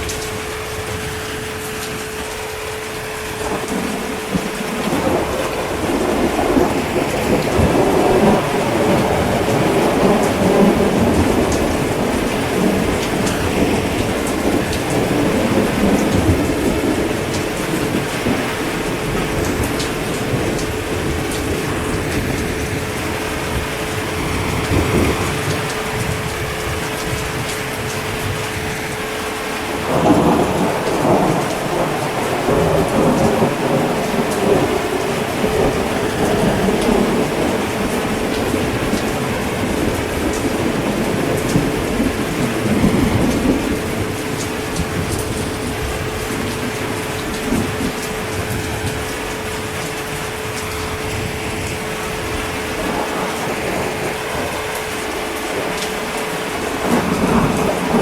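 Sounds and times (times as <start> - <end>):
heavy rain: 0.0 - 58.0
rolling thunder rumble: 0.0 - 58.0.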